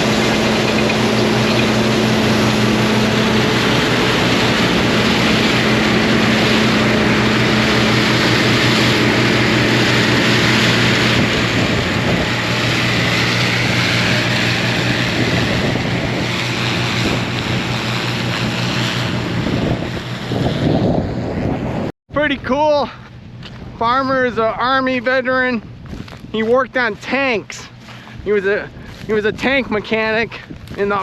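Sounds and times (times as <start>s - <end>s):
rushing mechanical noise: 0.0s - 21.9s, 23.0s - 31.0s
combine engine drone: 0.0s - 31.0s.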